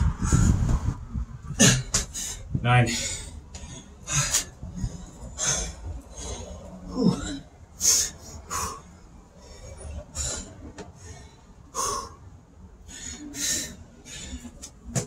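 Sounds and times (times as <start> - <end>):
man breathing hard: 0.0 - 14.8.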